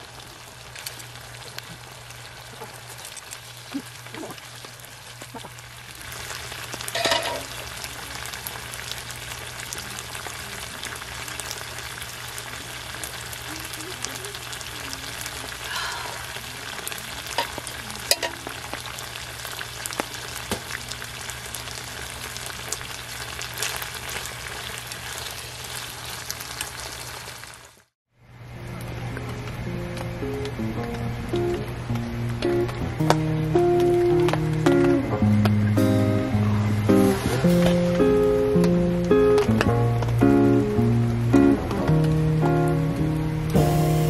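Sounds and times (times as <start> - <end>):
food sizzling in frying pan: 0.0 - 28.0, 28.8 - 44.0.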